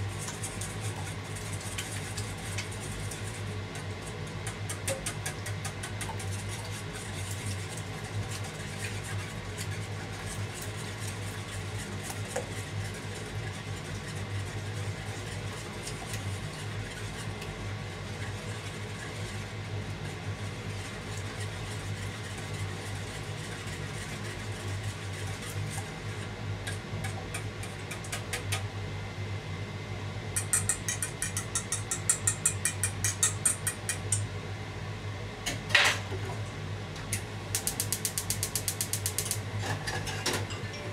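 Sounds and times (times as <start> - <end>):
whisk beating in a metal bowl: 0.0 - 28.7, 30.3 - 34.3, 37.6 - 40.2.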